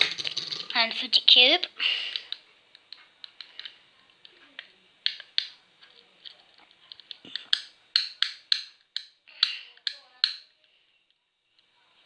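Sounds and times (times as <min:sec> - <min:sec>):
fidget cube plastic clicks: 0:00.0 - 0:01.4, 0:02.1 - 0:10.6.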